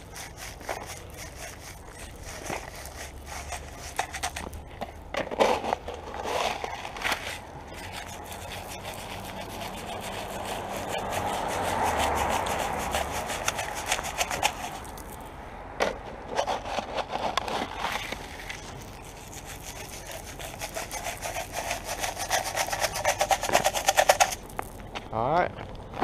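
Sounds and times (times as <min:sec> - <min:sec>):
salt scraping on pavement: 0:00.0 - 0:15.4, 0:16.2 - 0:24.8.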